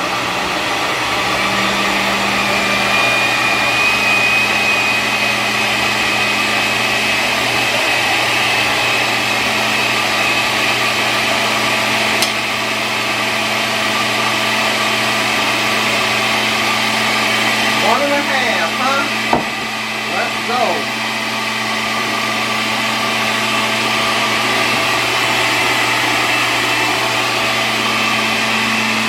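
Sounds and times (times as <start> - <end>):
motor drone: 0.0 - 29.0.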